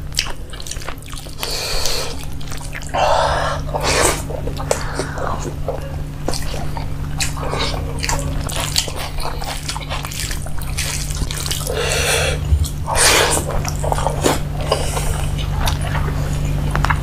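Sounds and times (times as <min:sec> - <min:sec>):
wet chewing and lip smacks: 0:00.0 - 0:03.0, 0:03.6 - 0:17.0
low steady hum: 0:00.0 - 0:17.0
slurps: 0:00.6 - 0:16.4.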